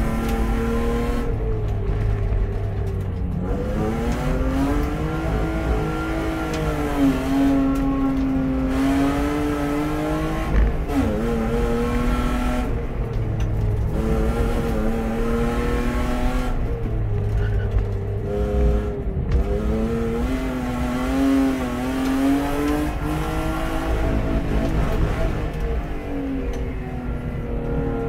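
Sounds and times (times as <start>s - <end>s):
race car engine accelerating: 0.0s - 28.0s.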